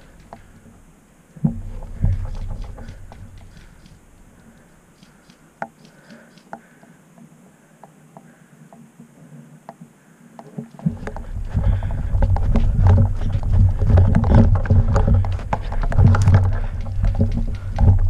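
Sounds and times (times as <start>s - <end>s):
twigs and grass crackling: 0.0s - 8.8s, 9.7s - 18.0s.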